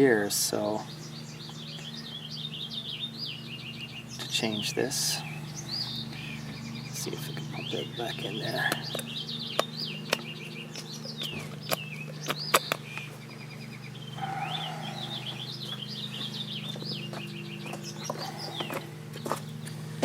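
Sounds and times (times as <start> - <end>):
songbirds chirping and singing: 0.0 - 20.0
steady low hum: 0.0 - 20.0.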